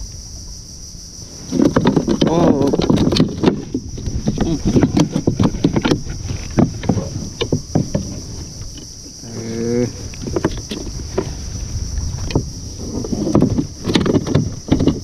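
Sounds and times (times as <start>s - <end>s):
knocks and thumps on a kayak: 1.2s - 15.0s.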